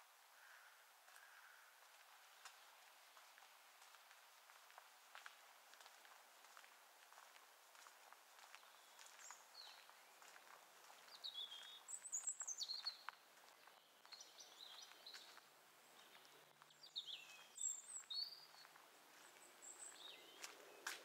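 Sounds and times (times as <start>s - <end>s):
small songbirds chirping: 0.4s - 21.0s.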